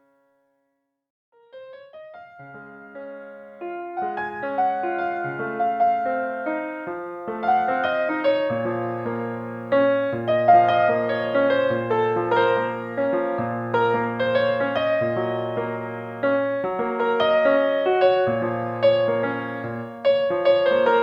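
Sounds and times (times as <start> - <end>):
solo piano music: 1.4 - 21.0.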